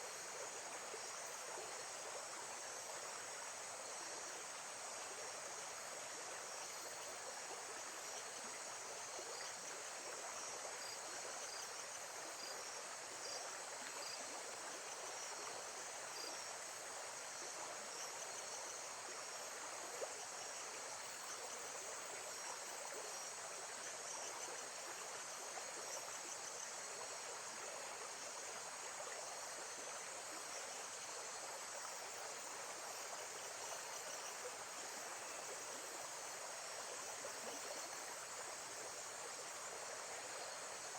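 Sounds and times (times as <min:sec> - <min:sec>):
faint insect chirps: 0:00.0 - 0:40.9.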